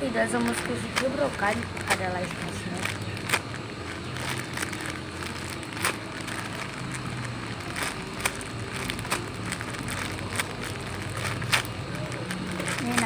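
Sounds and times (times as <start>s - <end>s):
foam toy rustling: 0.0s - 13.0s
sharp crackles and clicks: 0.0s - 13.0s
steady low hum: 0.0s - 13.0s.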